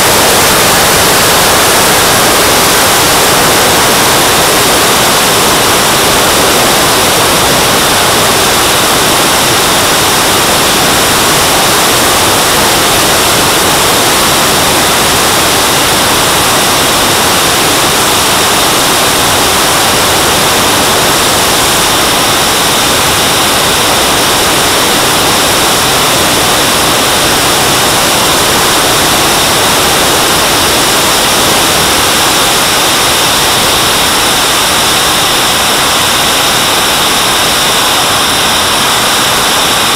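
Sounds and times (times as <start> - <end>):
faint high whine: 0.0 - 39.9
jet turbine rushing: 0.0 - 39.9.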